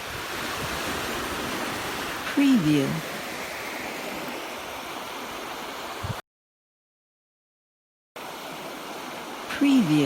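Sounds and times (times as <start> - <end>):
sea surf and wind: 0.0 - 6.2, 8.2 - 10.0.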